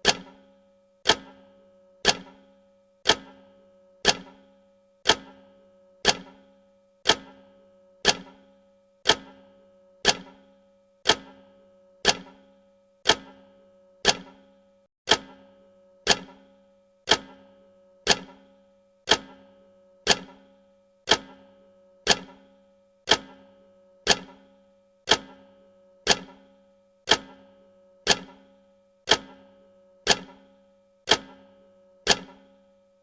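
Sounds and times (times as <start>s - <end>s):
clock-like tick with ringing tail: 0.0s - 33.0s.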